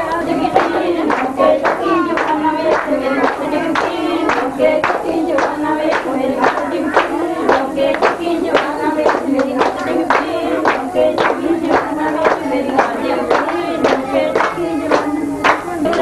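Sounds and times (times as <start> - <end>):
group singing: 0.0 - 16.0
rhythmic hand clapping: 0.0 - 16.0.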